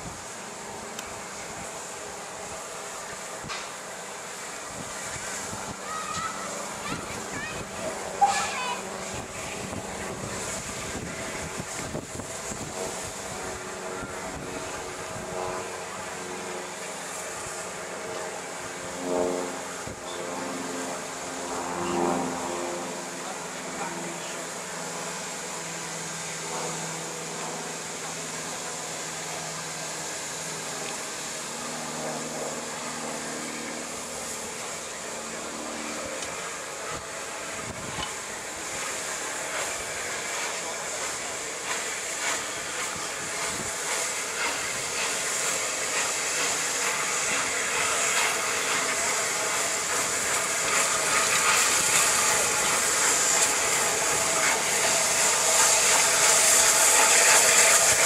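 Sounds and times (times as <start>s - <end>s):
steam locomotive hissing: 0.0s - 18.9s, 22.0s - 58.0s.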